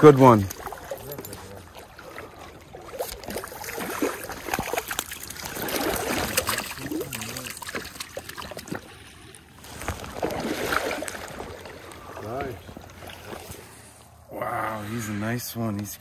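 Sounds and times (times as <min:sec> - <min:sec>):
water splashing: 0:00.0 - 0:14.2.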